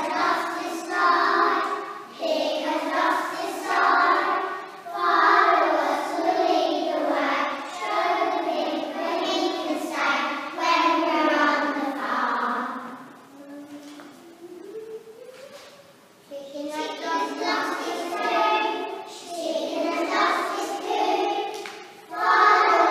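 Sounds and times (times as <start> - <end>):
children singing together: 0.0 - 22.9.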